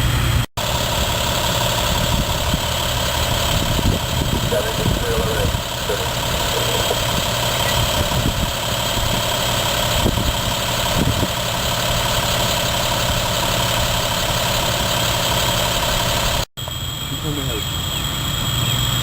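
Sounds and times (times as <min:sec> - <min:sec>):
large vehicle engine idling: 0:00.0 - 0:19.0.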